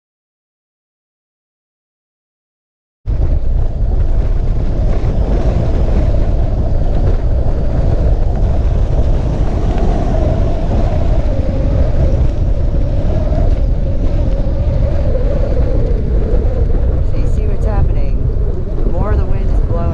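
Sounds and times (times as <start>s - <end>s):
wind buffeting microphone: 3.1s - 19.9s.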